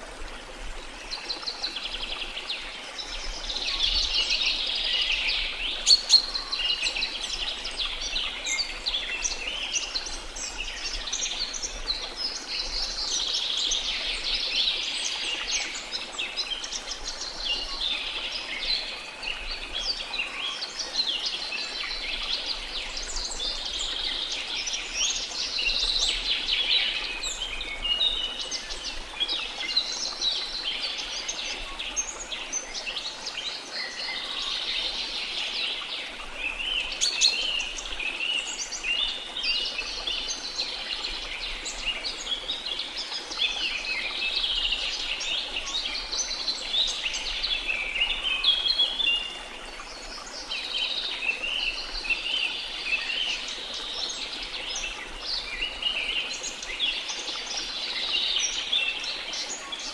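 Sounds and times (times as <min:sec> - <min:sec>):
songbirds chirping and twittering: 0:00.0 - 0:59.9.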